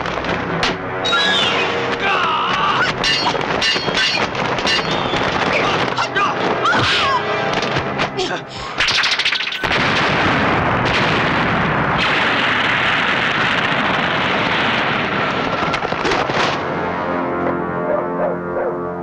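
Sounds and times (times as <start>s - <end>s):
rushing blast noise: 0.0s - 18.6s.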